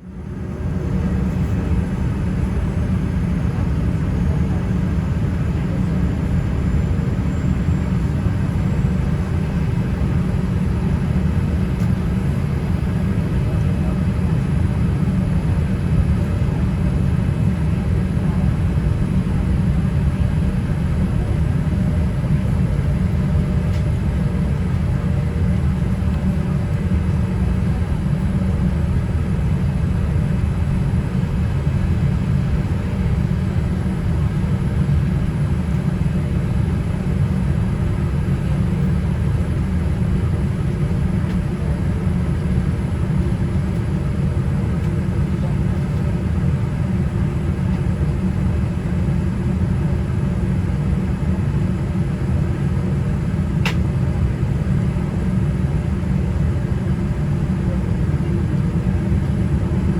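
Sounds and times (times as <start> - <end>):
airliner engines rumbling in cabin: 0.0 - 59.9.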